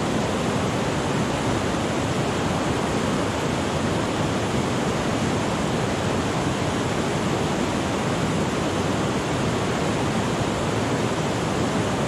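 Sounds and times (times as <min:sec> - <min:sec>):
river rapids rushing over rocks: 0:00.0 - 0:12.0.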